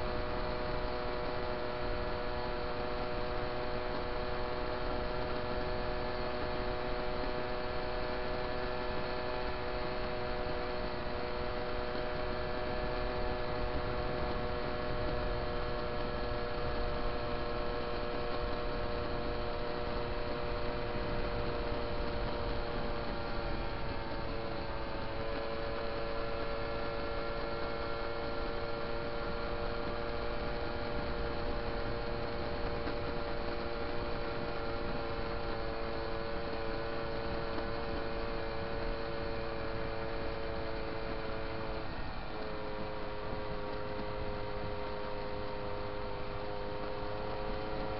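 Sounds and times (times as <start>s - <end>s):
moped engine whining drone: 0.0s - 47.9s.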